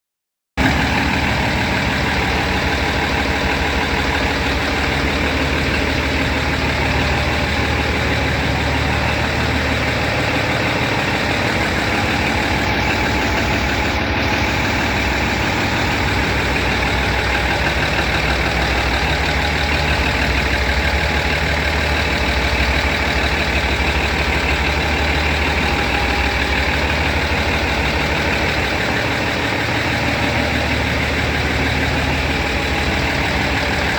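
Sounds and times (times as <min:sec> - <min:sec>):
diesel engine droning: 0:00.6 - 0:33.9.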